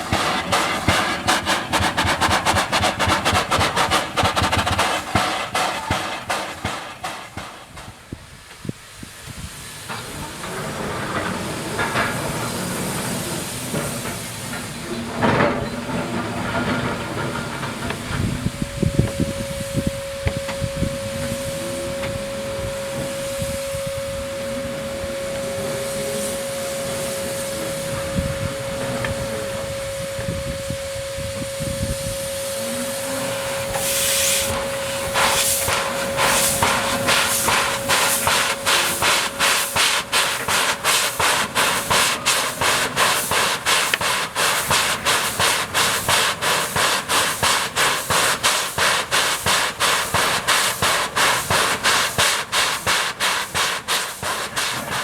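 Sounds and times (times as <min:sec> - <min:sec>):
steam hiss: 0:00.0 - 0:55.0
steam locomotive chuffing: 0:00.0 - 0:55.0.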